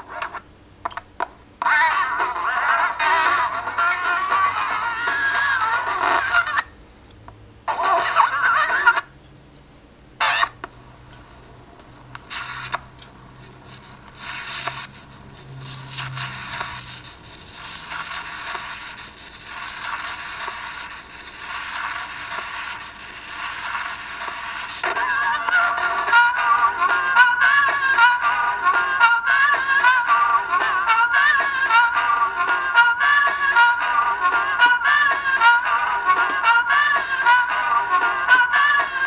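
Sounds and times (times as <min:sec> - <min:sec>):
scratchy record playback with razor blade: 0:00.0 - 0:00.4, 0:01.6 - 0:06.7, 0:07.7 - 0:09.1, 0:10.2 - 0:37.6.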